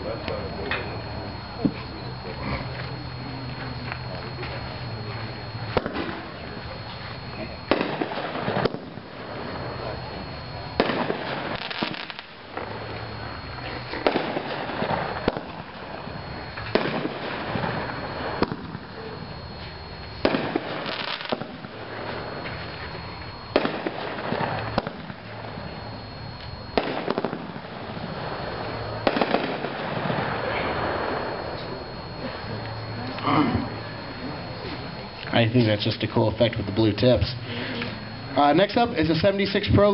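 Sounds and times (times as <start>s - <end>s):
fireworks booming reports: 0.0s - 39.9s.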